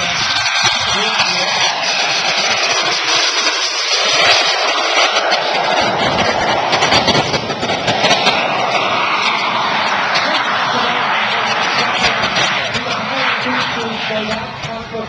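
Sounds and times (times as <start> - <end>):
model jet engines rushing: 0.0 - 15.0.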